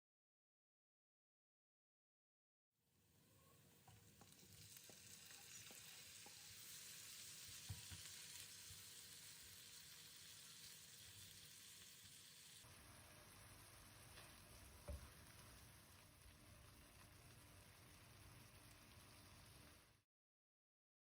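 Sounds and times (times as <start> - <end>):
food sizzling in a pan: 2.9 - 20.1.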